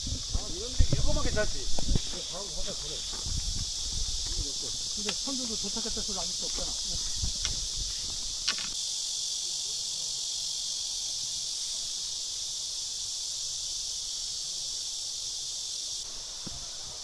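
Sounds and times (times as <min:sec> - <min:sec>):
insects shrilling: 0:00.0 - 0:17.0.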